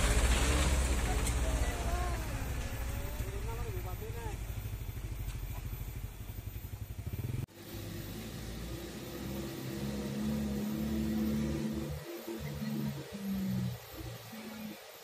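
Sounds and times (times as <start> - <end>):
truck diesel engine pulling away: 0.0 - 15.0
truck engine approaching: 0.0 - 15.0.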